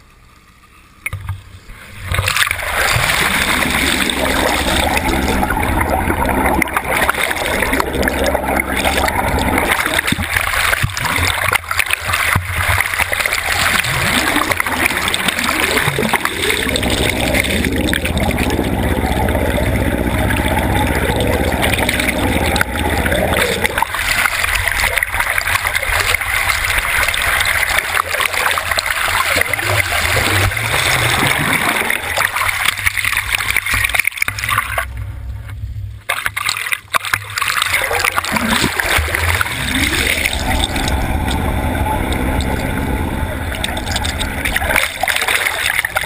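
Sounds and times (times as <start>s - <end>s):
low rumble: 0.0s - 36.4s, 37.0s - 46.0s
water rushing and splashing: 1.0s - 35.3s, 36.0s - 46.0s.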